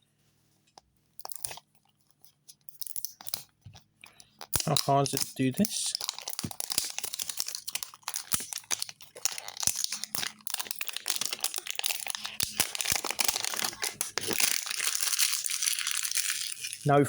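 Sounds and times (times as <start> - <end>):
plastic wrapping crinkling: 0.6 - 17.0.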